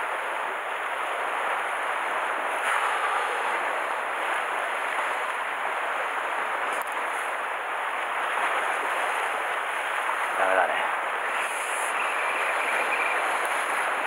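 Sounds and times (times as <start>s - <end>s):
waves washing against rocks: 0.0s - 14.0s.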